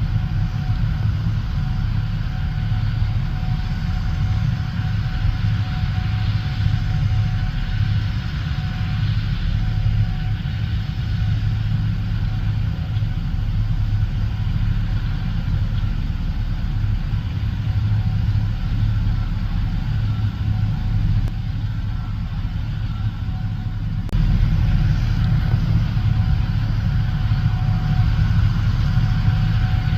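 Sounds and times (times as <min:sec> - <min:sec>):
diesel engine drone: 0:00.0 - 0:29.9
faint steady whine: 0:00.0 - 0:29.9.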